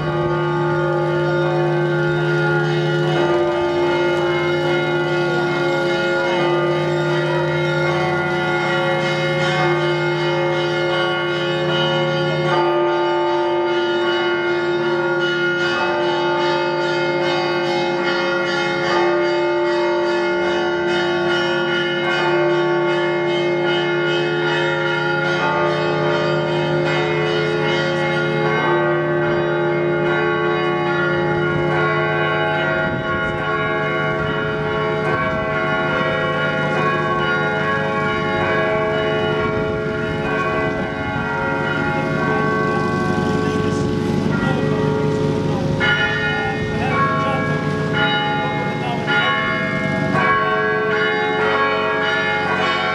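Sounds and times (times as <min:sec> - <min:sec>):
church bells pealing: 0:00.0 - 0:52.9.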